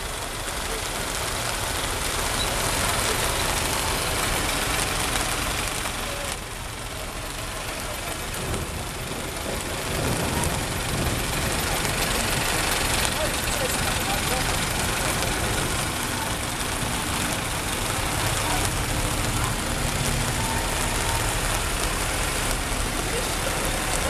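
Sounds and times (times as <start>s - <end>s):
heavy rain hissing: 0.0s - 24.0s
tractor engines passing: 0.0s - 24.0s.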